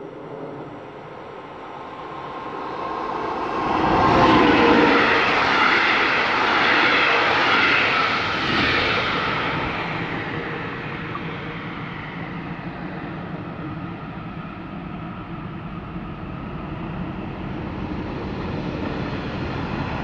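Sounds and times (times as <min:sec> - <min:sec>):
train coaches rushing past: 0:00.0 - 0:20.0
train rumbling past: 0:00.0 - 0:20.0.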